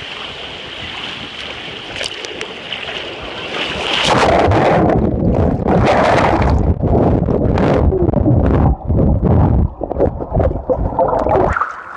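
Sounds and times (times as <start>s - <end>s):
water rushing along slide: 0.0s - 6.8s, 7.6s - 11.9s
underwater churning and bubbling: 0.0s - 11.9s.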